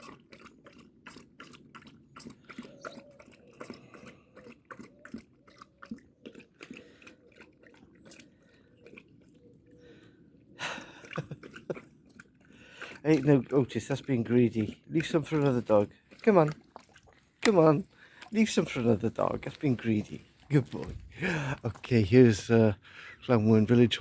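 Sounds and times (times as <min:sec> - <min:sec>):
dog lapping water: 0:00.0 - 0:24.0.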